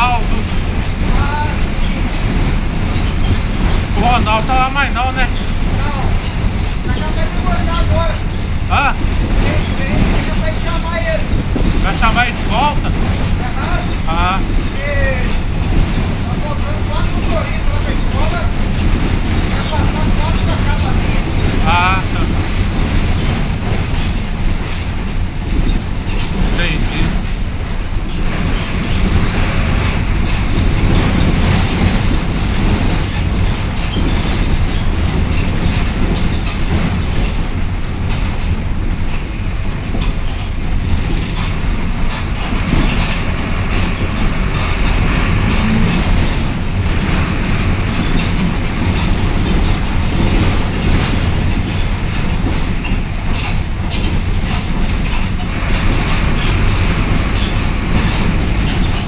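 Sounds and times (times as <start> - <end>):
bus body rattling: 0.0 - 59.0
bus engine rumble: 0.0 - 59.0.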